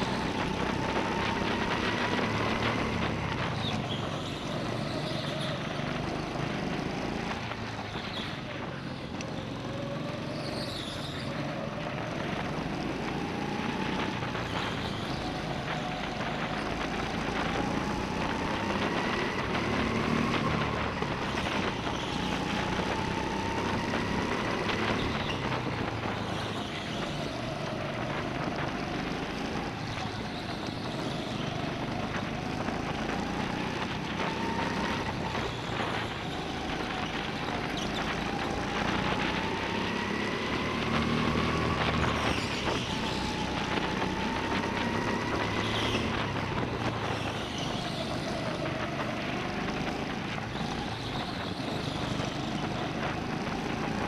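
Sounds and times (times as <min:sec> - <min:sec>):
go-kart engine whine: 0:00.0 - 0:54.0.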